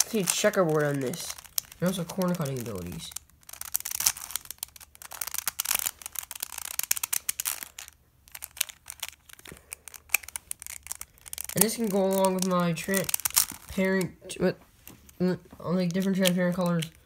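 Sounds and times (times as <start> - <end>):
puzzle cube clicking: 0.0 - 14.2, 15.1 - 17.0.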